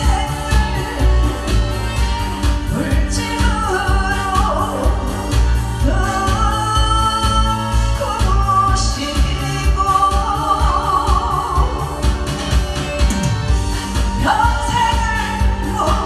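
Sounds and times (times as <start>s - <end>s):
woman singing into a microphone: 0.0s - 12.6s, 14.0s - 16.0s
musical accompaniment with bass beat: 0.0s - 16.0s.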